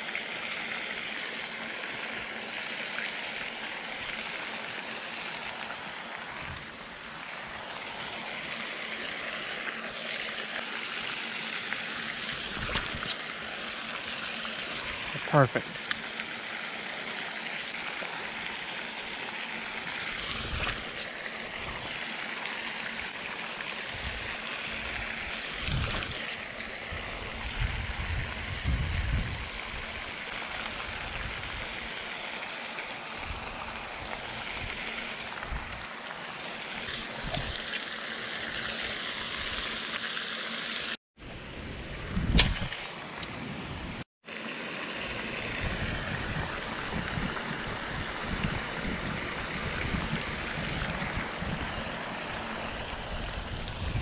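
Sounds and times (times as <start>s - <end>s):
fountain splashing hiss: 0.0s - 41.0s, 44.2s - 54.0s.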